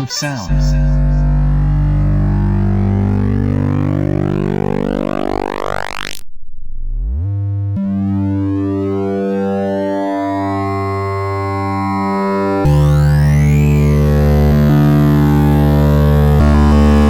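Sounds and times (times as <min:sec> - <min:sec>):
synthesized buzzy drone: 0:00.5 - 0:17.0
low tone gliding up: 0:00.6 - 0:17.0.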